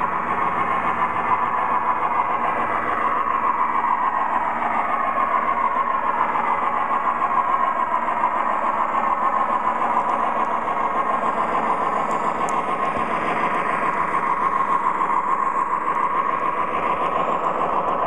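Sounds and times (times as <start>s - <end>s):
diesel engine drone from small speaker: 0.0s - 18.0s
model train wheels rolling on track: 0.0s - 18.0s.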